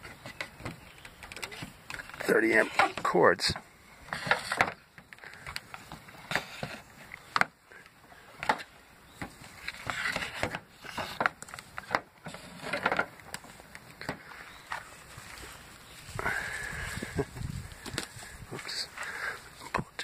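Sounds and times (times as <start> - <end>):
rubber power cord rustling and scraping: 0.0 - 7.5, 8.3 - 20.0.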